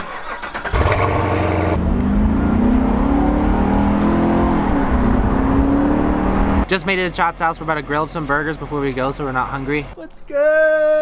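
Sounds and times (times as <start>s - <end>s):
car engine accelerating: 0.5s - 9.9s.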